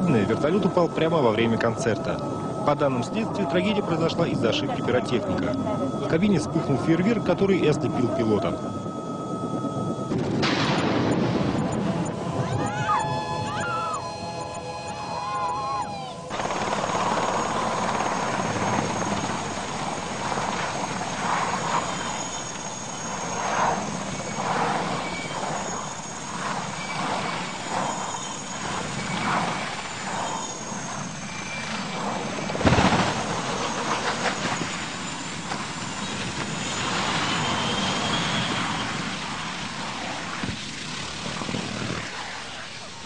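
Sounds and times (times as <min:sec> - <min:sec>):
helicopter rotor and turbine: 0:00.0 - 0:43.0.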